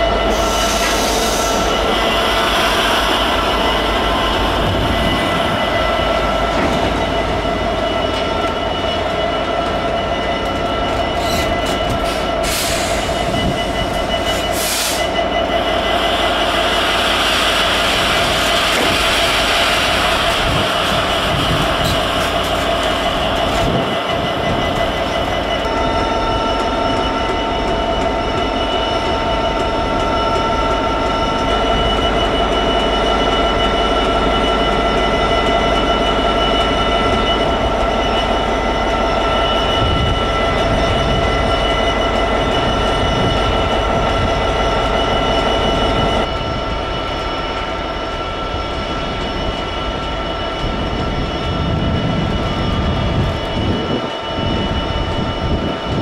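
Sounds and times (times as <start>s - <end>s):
diesel locomotive idling: 0.0s - 55.7s
diesel freight train approaching: 0.0s - 56.0s.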